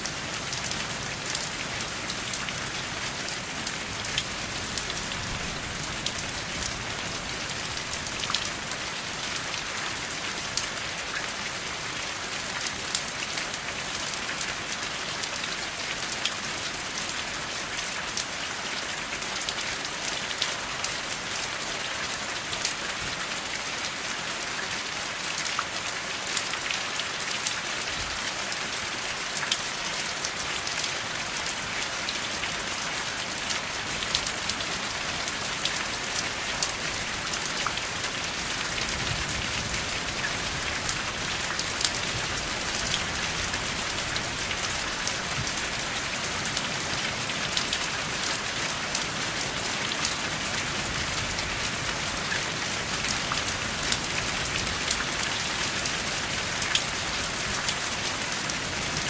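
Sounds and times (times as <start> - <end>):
raindrops hitting close by: 0.0 - 59.0.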